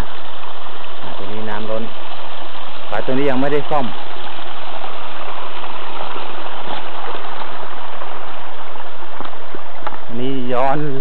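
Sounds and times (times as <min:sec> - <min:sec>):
stream water rushing over rocks: 0:00.0 - 0:10.1.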